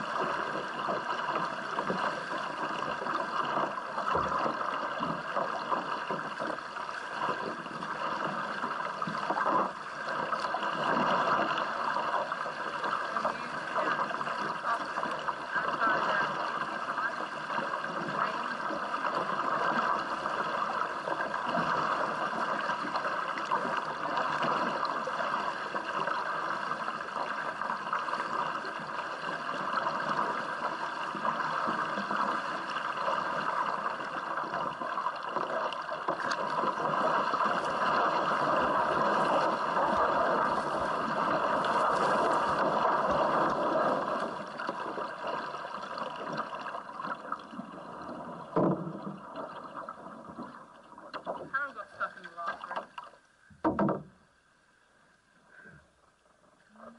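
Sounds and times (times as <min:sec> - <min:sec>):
water splashing from paddling kayak: 0:00.0 - 0:54.3.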